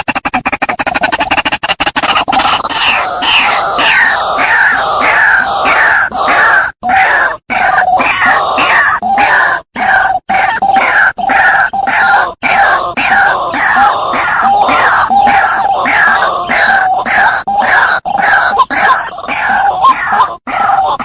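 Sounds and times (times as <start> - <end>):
bird harsh croaking calls: 0.0 - 21.0.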